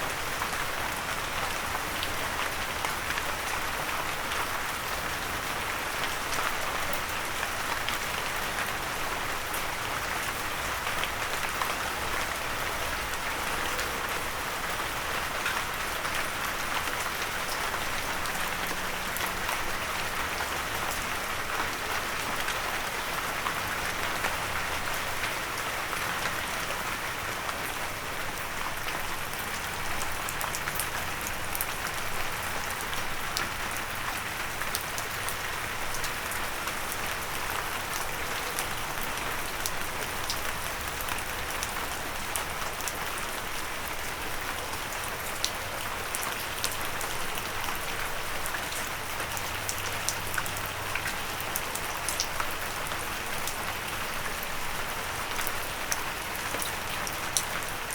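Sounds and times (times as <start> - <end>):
rain pattering on a windowsill: 0.1 - 57.9.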